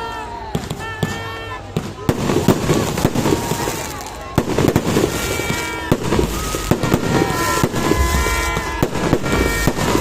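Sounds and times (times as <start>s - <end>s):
fireworks bangs: 0.5s - 10.0s
fireworks crackle: 0.5s - 10.0s.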